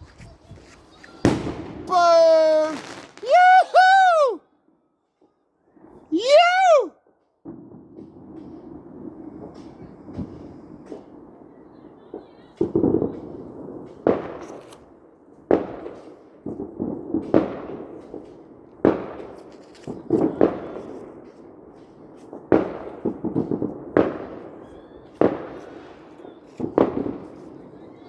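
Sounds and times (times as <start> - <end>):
fireworks exploding: 0.1 - 4.3, 7.4 - 28.0.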